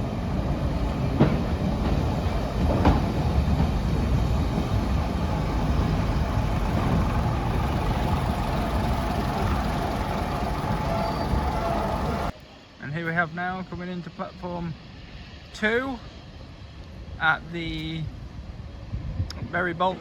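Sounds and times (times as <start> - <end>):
train diesel engines running: 0.0 - 20.0.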